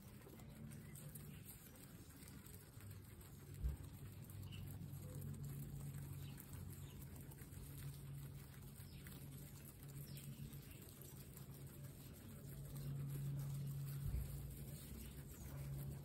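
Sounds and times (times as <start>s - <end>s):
guinea pigs chewing grass: 0.0s - 16.0s
steady low hum: 0.0s - 16.0s.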